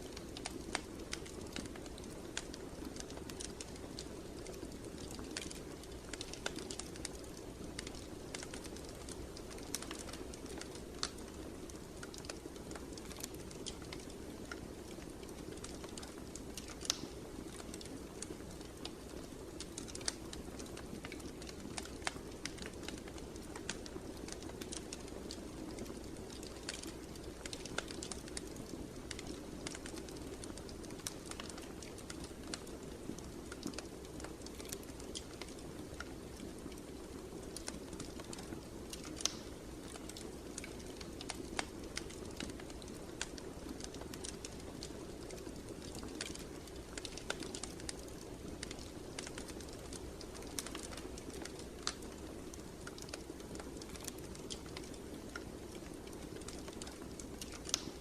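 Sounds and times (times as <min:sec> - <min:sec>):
fire crackling and popping: 0:00.0 - 0:58.0
low rumble of burning: 0:00.0 - 0:58.0.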